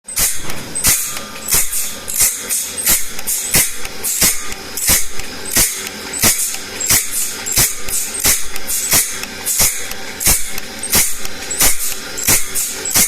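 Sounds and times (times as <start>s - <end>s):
saw blade sharpening strokes: 0.1s - 13.0s.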